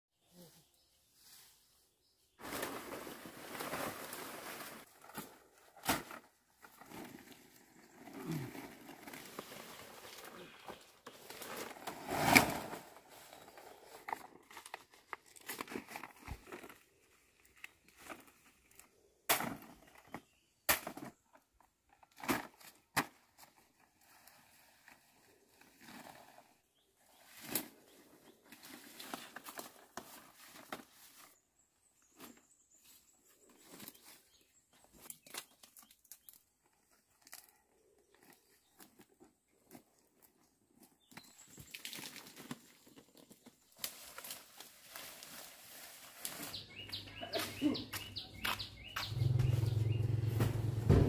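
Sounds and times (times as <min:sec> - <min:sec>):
leaves rustling and crinkling: 0:00.6 - 0:19.1, 0:22.0 - 0:51.0.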